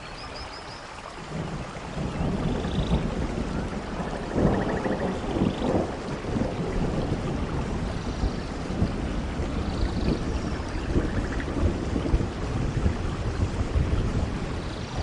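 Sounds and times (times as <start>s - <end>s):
steady rain: 0.0s - 15.0s
rumble of thunder: 1.2s - 15.0s.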